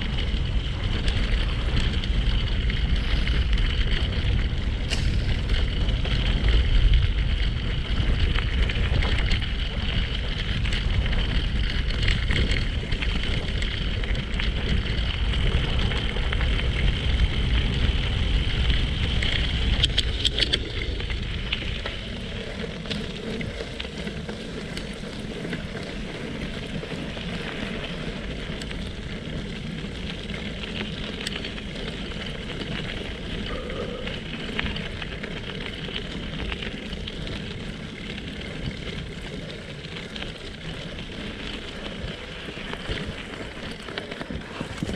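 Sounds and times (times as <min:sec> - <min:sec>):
tyres crunching on gravel: 0:00.0 - 0:44.9
wind on microphone: 0:00.0 - 0:44.9.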